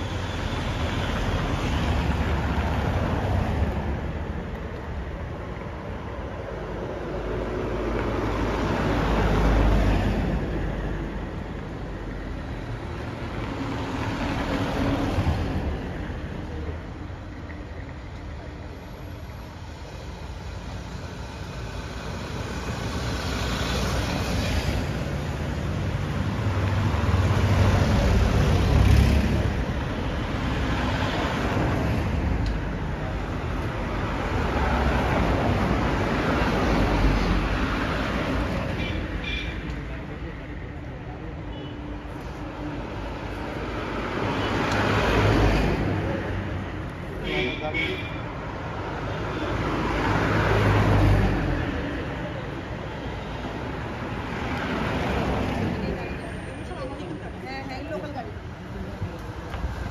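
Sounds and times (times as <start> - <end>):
vehicles driving past: 0.0 - 59.9.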